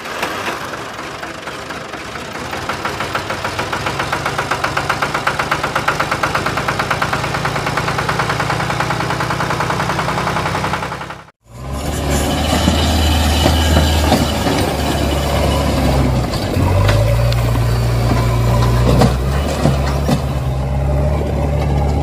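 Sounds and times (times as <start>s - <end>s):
diesel engine idling: 0.0s - 11.8s, 12.4s - 22.0s.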